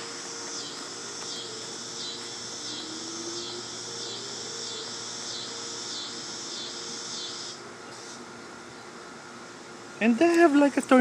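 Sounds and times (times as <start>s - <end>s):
crickets chirping: 0.0s - 8.9s.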